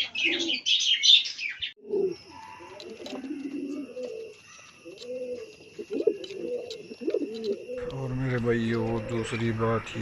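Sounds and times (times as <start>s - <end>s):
pigeons cooing: 0.0s - 9.6s.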